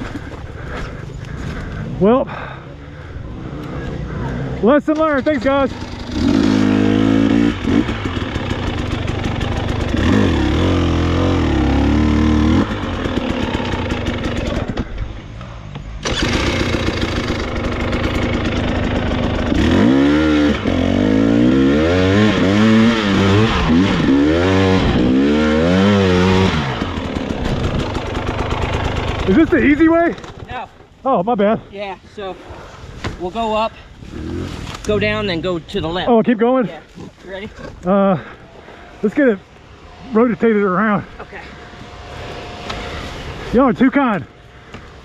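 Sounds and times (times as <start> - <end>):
dirt bike engine revving: 0.0 - 15.2, 16.0 - 30.4, 34.0 - 45.0.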